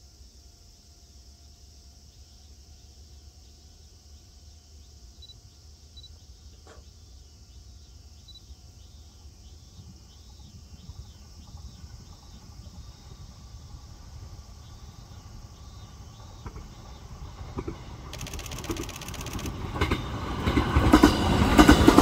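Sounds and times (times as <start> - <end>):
high insect hiss: 0.0 - 20.2
insect chirping: 0.0 - 20.2.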